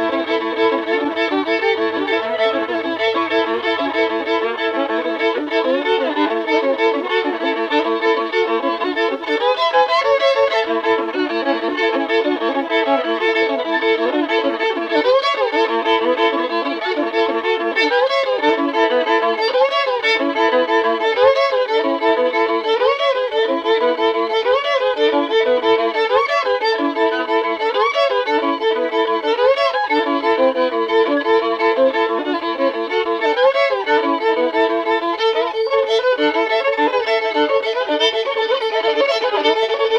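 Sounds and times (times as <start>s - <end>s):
solo fiddle playing: 0.0s - 39.9s.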